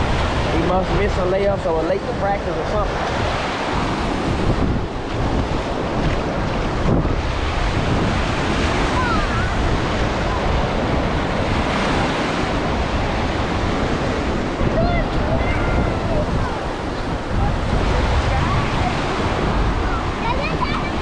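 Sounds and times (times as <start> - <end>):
small waves breaking on sand: 0.0 - 21.0
wind buffeting microphone: 0.0 - 21.0.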